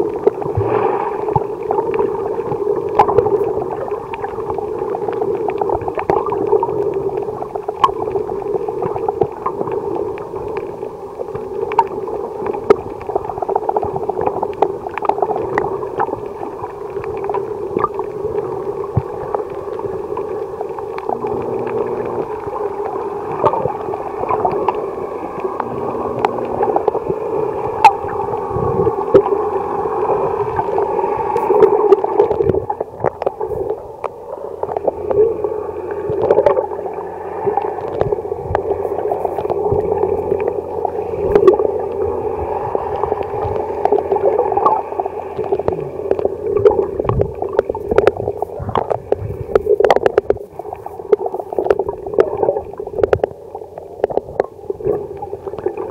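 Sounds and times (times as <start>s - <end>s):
muffled underwater rushing water: 0.0s - 55.9s.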